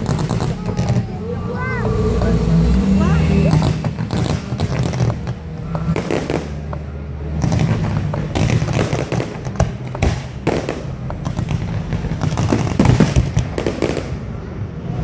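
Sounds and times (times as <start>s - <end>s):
fireworks bursting: 0.0s - 2.4s, 3.0s - 15.0s
fireworks crackling: 0.0s - 15.0s.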